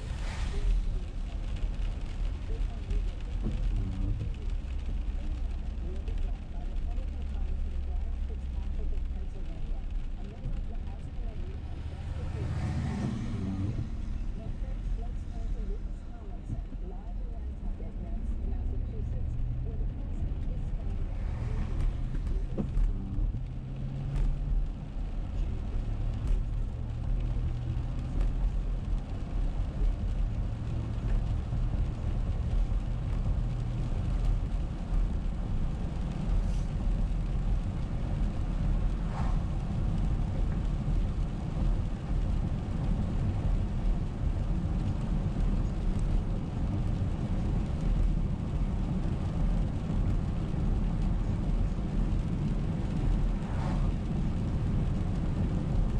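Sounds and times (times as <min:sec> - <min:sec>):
car road noise on wet road: 0:00.0 - 0:55.9.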